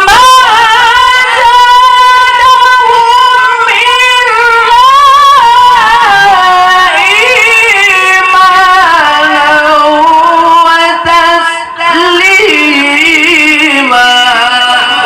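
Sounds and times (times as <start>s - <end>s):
person reciting melismatic chant: 0.0s - 15.0s.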